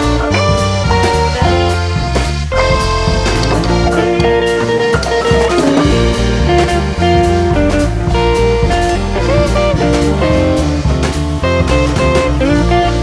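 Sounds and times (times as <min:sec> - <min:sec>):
bass line: 0:00.0 - 0:13.0
light drums: 0:00.0 - 0:13.0
plucked guitar: 0:00.0 - 0:13.0.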